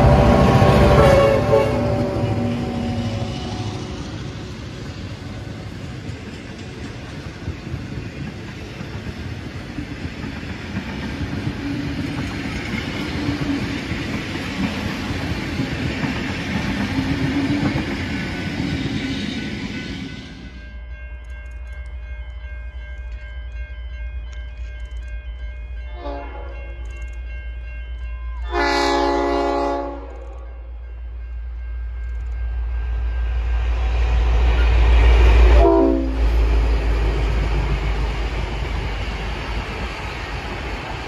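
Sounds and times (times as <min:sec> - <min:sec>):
train carriages rumbling past: 0:00.0 - 0:41.0.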